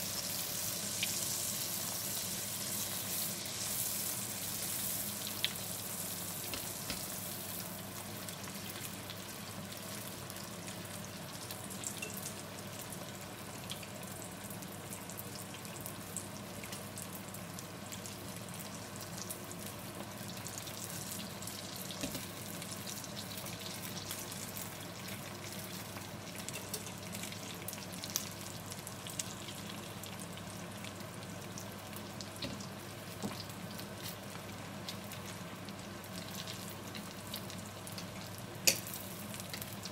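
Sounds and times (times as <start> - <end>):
deep-frying sizzle and pops: 0.0 - 39.9.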